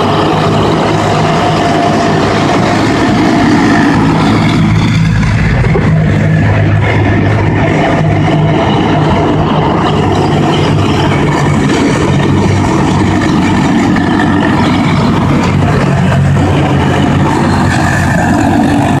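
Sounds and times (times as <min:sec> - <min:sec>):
diesel engines running loudly: 0:00.0 - 0:19.0
vehicle tracks rattling: 0:00.0 - 0:19.0.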